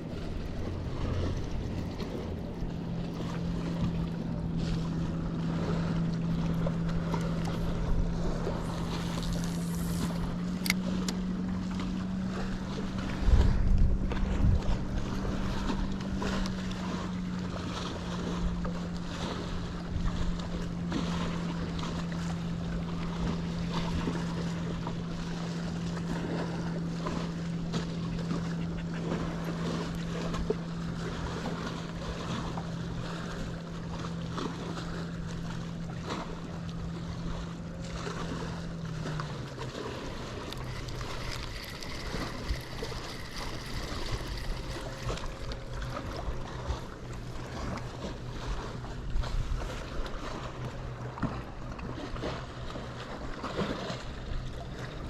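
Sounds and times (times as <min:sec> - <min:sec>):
boat motor humming: 0:00.0 - 0:55.0
water noise: 0:00.0 - 0:55.0
wind: 0:00.0 - 0:55.0.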